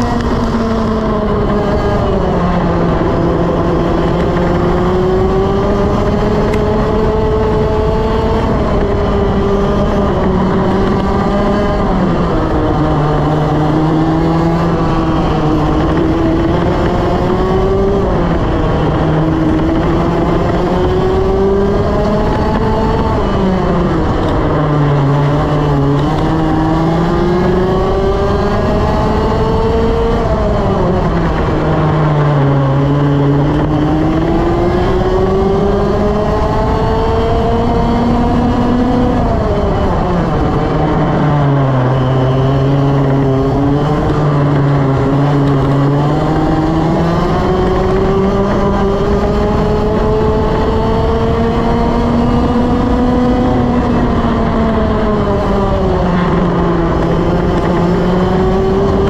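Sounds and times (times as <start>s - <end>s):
kart engine revving: 0.0s - 59.0s
wind and tyre noise: 0.0s - 59.0s.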